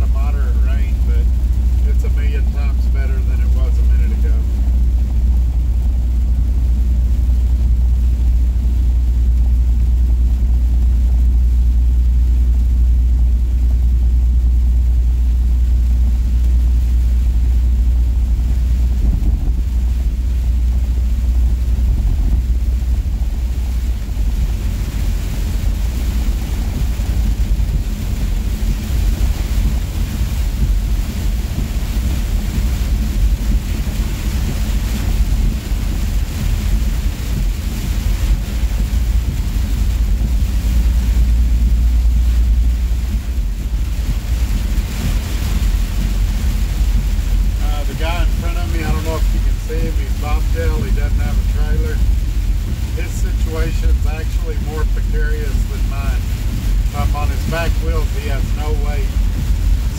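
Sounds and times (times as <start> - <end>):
rain hissing on windshield: 0.0 - 59.9
truck engine and road drone: 0.0 - 59.9.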